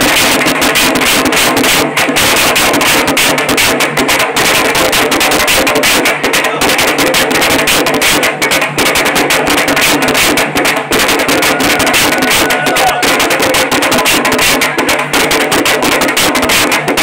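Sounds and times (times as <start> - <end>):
loud music with fast drumming: 0.0 - 17.0.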